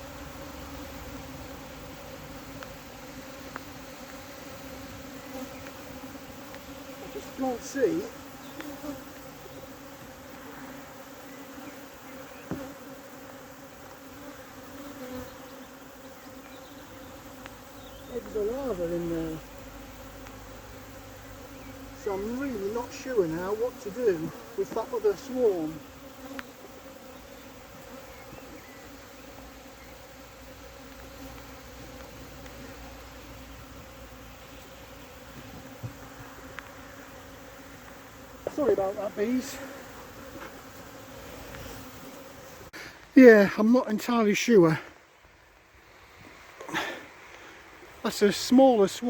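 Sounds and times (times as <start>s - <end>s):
honeybees buzzing: 0.0s - 49.0s.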